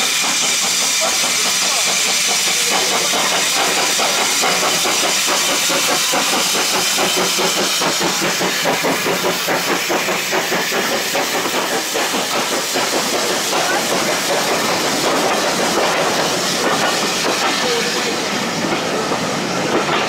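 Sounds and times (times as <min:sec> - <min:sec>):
steam hissing: 0:00.0 - 0:20.0
steam locomotive exhaust beat: 0:00.0 - 0:20.0.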